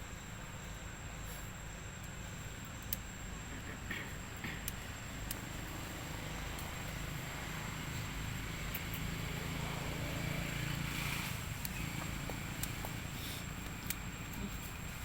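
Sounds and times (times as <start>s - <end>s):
low engine hum: 2.3s - 15.0s.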